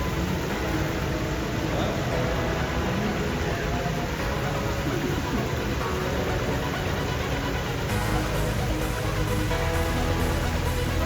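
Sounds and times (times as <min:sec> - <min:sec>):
rushing noise: 0:00.0 - 0:11.0
low hum: 0:01.8 - 0:11.0.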